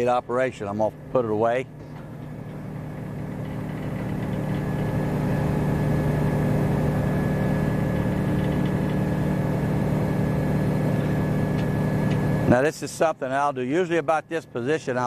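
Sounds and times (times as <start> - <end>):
hydraulic pump motor running: 0.0 - 15.0.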